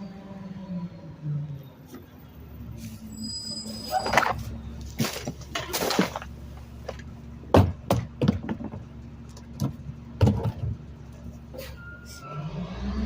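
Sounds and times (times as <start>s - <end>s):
garbage truck engine running: 2.4s - 13.0s.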